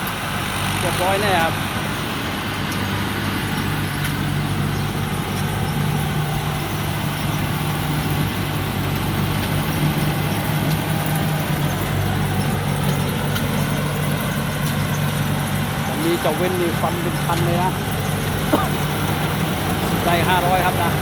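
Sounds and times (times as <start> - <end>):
diesel engine humming: 0.0 - 21.0
harvester mechanical noise: 0.0 - 21.0.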